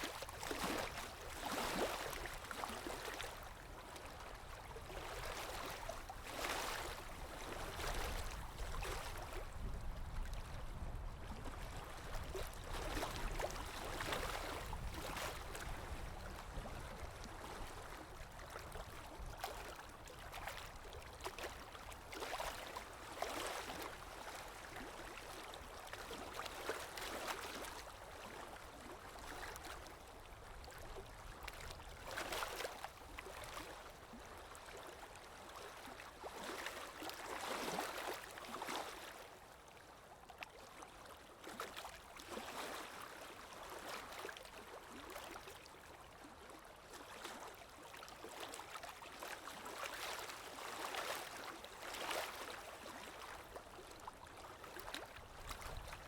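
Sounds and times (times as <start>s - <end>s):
water lapping: 0.0s - 56.0s
wind: 0.0s - 56.0s.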